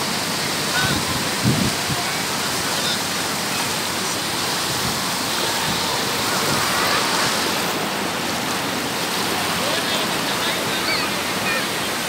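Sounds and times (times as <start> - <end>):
small waves breaking on beach: 0.0 - 12.0
faint voices: 0.4 - 12.0.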